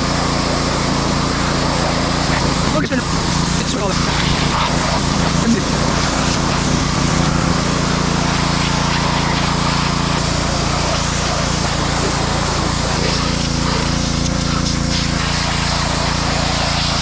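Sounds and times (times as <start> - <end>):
pressure washer motor drone: 0.0 - 17.0
water spray hissing: 0.0 - 17.0.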